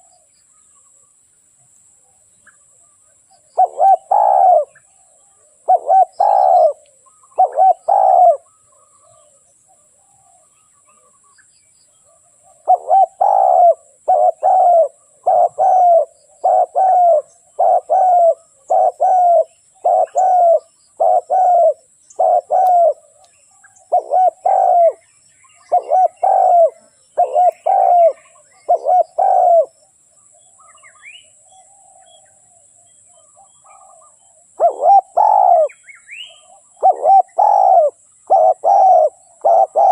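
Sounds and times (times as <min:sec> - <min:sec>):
dove cooing: 0:03.4 - 0:11.2, 0:12.1 - 0:29.8, 0:31.6 - 0:39.9.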